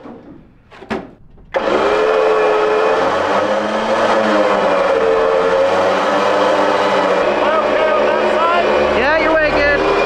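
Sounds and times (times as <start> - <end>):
winch motor whining under load: 1.3 - 10.0.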